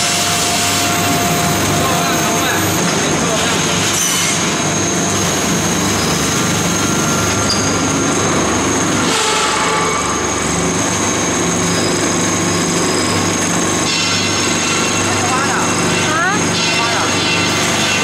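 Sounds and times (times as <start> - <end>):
machine humming and whining: 0.0 - 18.0.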